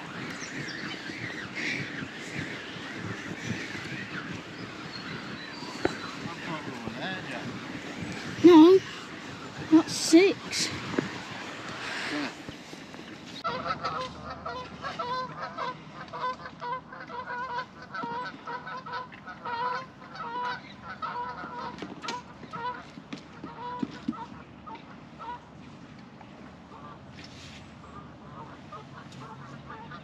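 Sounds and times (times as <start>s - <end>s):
geese honking: 0.0s - 12.5s, 13.4s - 25.5s, 26.6s - 27.0s, 27.8s - 30.0s.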